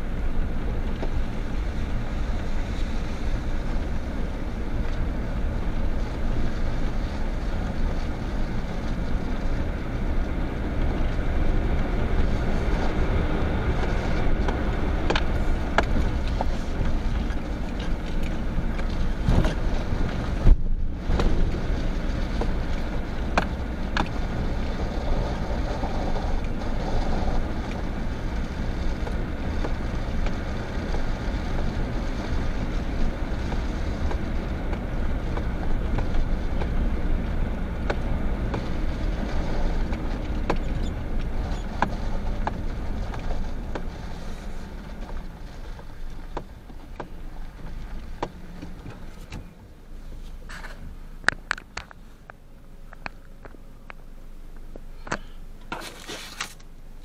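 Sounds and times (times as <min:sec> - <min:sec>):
vehicle engine and tyres rumbling: 0:00.0 - 0:57.0.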